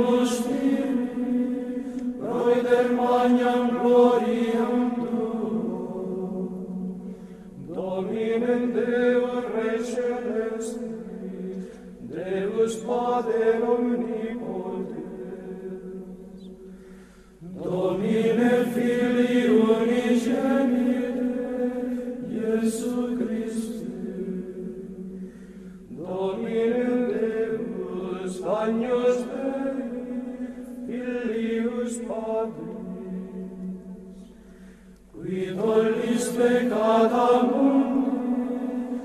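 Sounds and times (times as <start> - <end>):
chant in slow held notes: 0.0 - 39.0.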